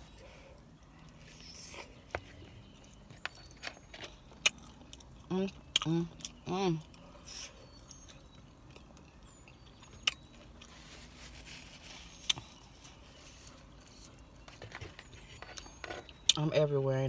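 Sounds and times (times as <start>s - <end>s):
quiet chewing: 0.0s - 16.4s
low steady hum: 0.0s - 17.0s.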